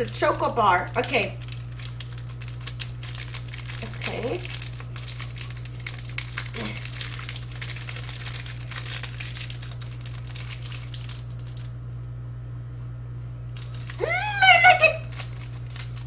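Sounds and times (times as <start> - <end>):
plastic wrapper crinkling: 0.0 - 12.1, 13.6 - 16.0.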